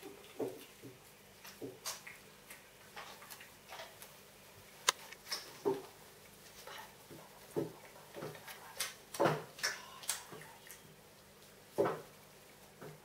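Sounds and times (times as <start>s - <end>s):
puppy eating wet smacking: 0.0s - 13.0s.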